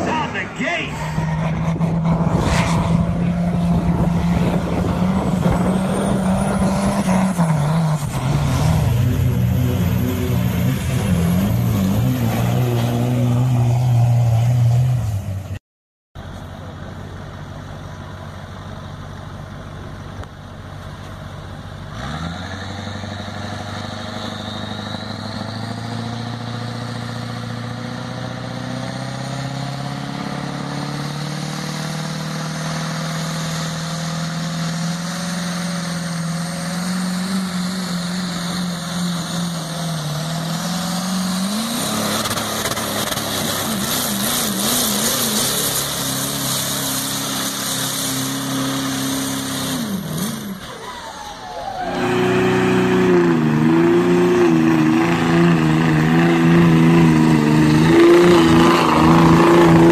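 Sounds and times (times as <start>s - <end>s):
diesel truck engine revving: 0.0s - 15.6s, 16.2s - 59.9s.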